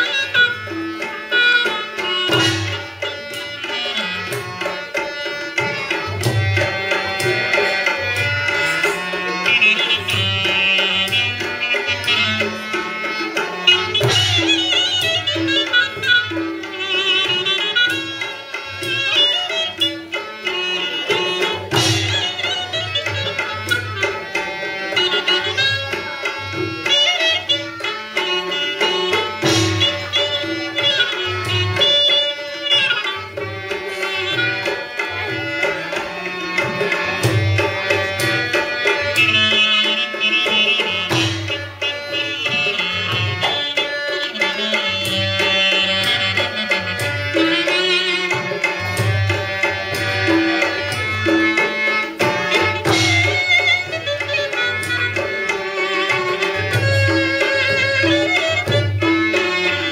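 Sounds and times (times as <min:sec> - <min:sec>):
hand drum rhythm: 0:00.0 - 0:59.9
ornamented folk melody: 0:00.0 - 0:59.9.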